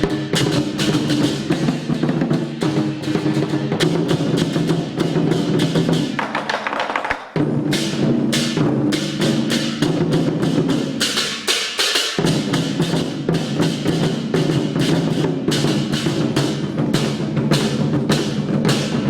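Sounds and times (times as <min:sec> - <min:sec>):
clashing cymbals: 0:00.0 - 0:06.2, 0:07.4 - 0:19.0
big drum beating: 0:00.0 - 0:19.0.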